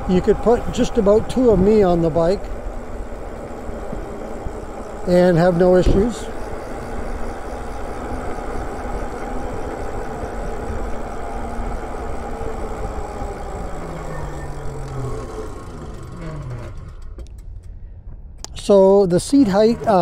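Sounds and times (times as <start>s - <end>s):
faint electric motor whine: 0.0s - 17.8s.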